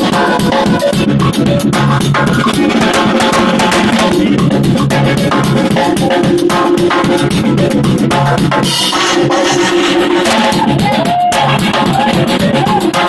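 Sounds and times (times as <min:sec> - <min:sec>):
drum kit groove: 0:00.0 - 0:13.0
keyboards: 0:00.0 - 0:13.0.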